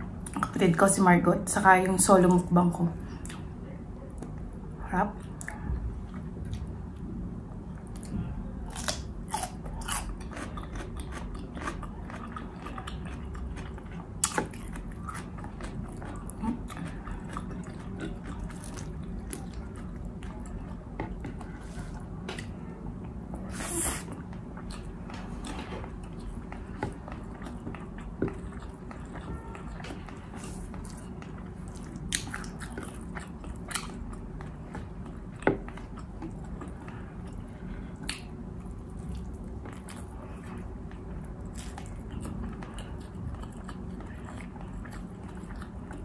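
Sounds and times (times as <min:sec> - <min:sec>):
chewing and biting food: 0:07.7 - 0:23.2, 0:24.1 - 0:46.0.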